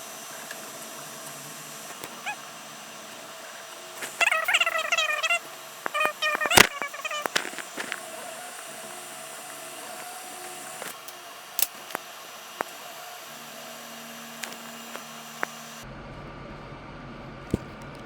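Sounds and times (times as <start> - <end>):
background whir and hiss: 0.0 - 18.0.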